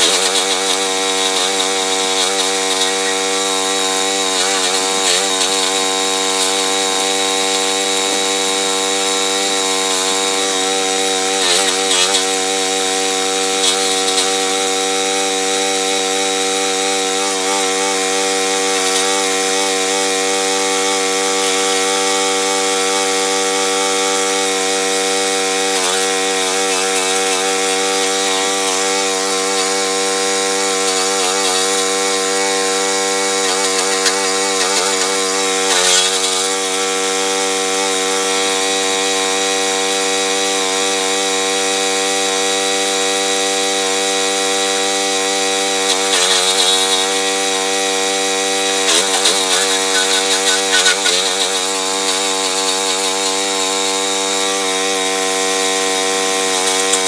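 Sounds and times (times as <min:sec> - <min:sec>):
cutting rotor whirring: 0:00.0 - 0:39.4, 0:44.3 - 0:57.0
chipper-shredder engine droning: 0:00.0 - 0:57.0.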